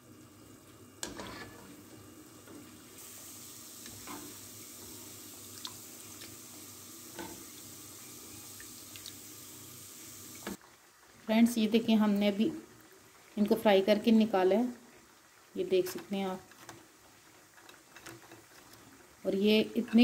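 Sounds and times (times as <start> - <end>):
dough deep-frying in oil: 0.0 - 20.0.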